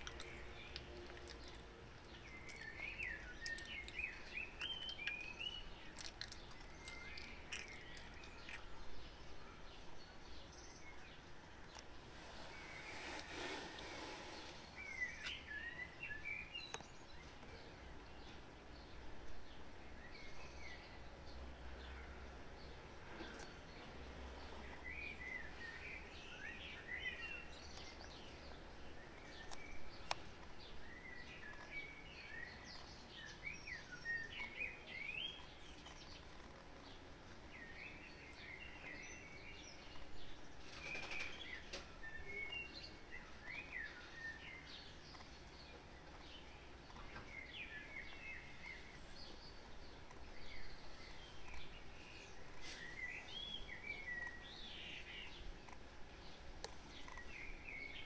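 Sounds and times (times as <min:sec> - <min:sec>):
birds chirping faintly: 0:00.0 - 0:58.0
low steady background noise: 0:00.0 - 0:58.0.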